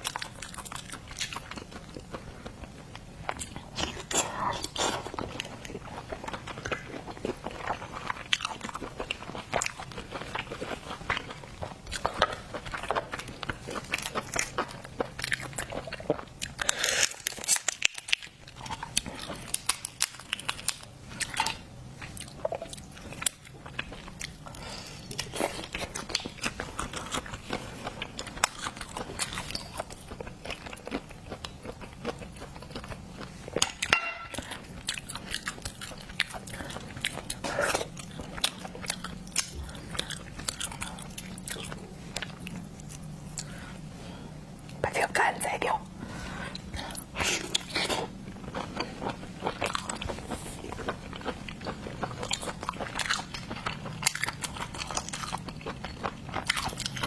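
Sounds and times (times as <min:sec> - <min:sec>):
chewing and crunching seafood: 0:00.0 - 0:57.0.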